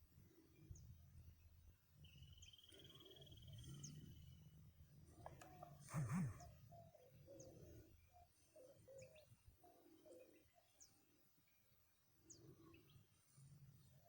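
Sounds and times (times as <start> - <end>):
faint bird chirps: 0.4 - 14.0.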